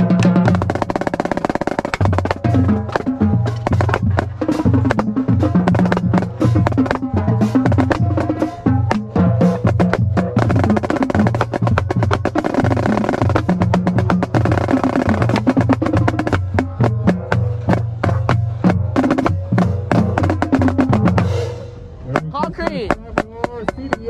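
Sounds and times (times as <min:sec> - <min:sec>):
backing song with bass line: 0:00.0 - 0:23.2
snare drum rolls: 0:00.0 - 0:24.0.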